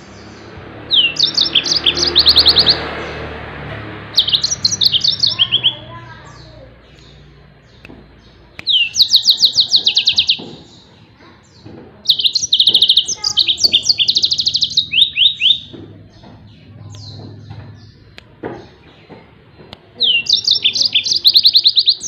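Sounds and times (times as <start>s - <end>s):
canary singing rapid trills: 0.0s - 19.1s, 19.9s - 22.0s.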